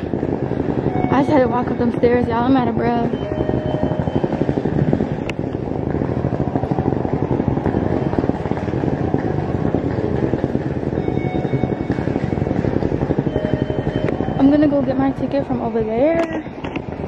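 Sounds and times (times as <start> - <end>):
wind buffeting phone microphone: 0.0 - 17.0.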